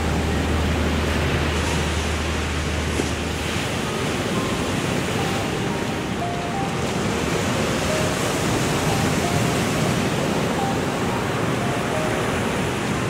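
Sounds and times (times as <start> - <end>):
surf breaking on beach: 0.0 - 13.0.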